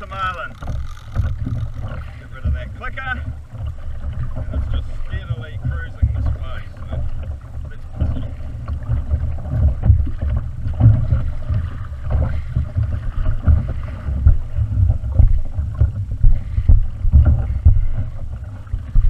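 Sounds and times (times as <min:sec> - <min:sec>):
water sloshing against kayak hull: 0:00.0 - 0:19.0
wind buffeting microphone: 0:00.0 - 0:19.0.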